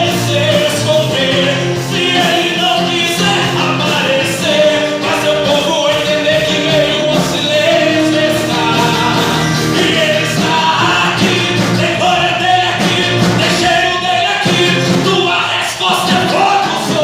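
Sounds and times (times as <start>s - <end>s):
instrumental accompaniment: 0.0s - 17.0s
singing long held notes: 0.0s - 17.0s.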